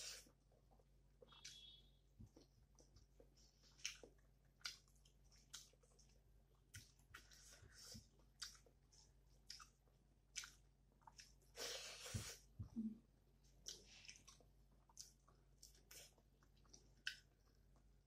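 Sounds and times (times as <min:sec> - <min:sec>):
wet chewing and smacking: 0:00.5 - 0:11.6, 0:13.5 - 0:18.0.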